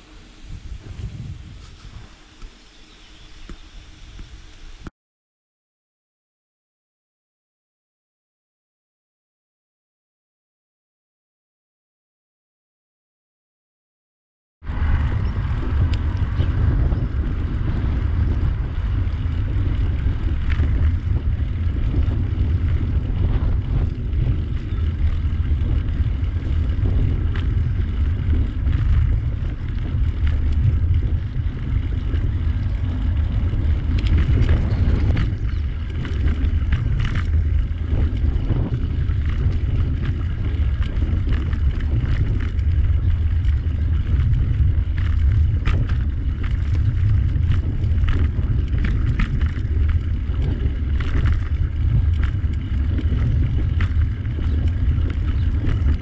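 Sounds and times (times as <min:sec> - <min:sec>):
wind buffeting microphone: 0:00.0 - 0:04.9, 0:14.6 - 0:56.0.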